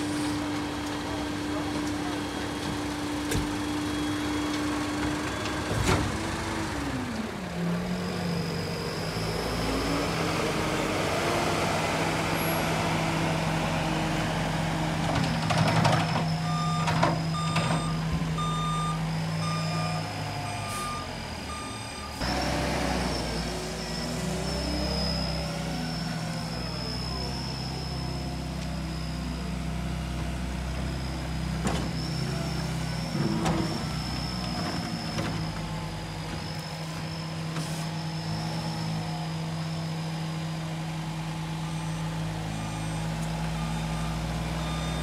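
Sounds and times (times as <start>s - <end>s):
reversing beeper: 3.4s - 5.7s, 7.9s - 14.8s, 15.5s - 45.0s.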